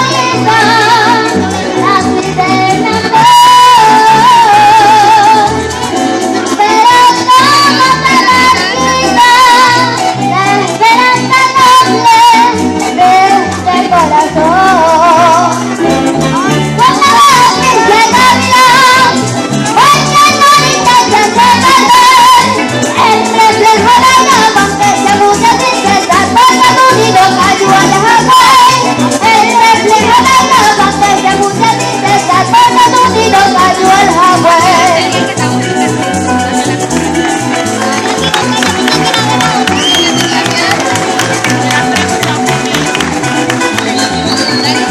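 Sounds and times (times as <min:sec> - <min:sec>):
maracas shaking: 0:00.0 - 0:44.9
steady bass: 0:00.0 - 0:44.9.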